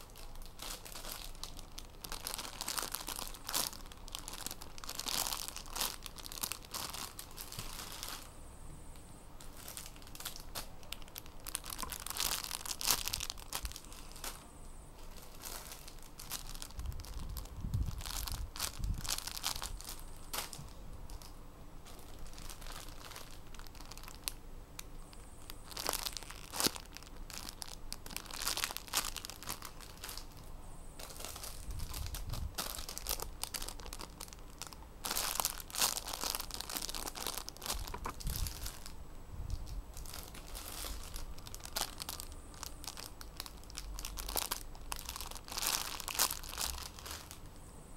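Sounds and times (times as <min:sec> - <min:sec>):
plastic bags crinkling: 0:00.0 - 0:08.4, 0:09.4 - 0:14.4, 0:15.0 - 0:47.5.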